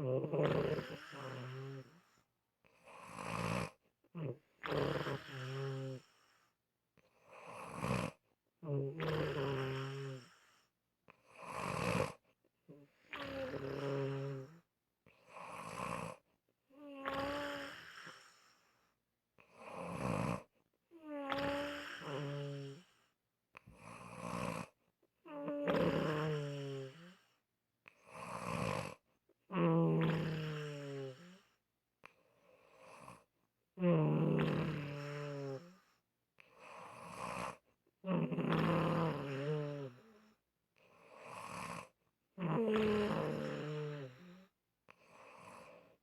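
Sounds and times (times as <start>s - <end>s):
rhythmic snoring: 0.0s - 6.5s, 7.1s - 18.8s, 19.4s - 31.6s, 32.4s - 46.0s.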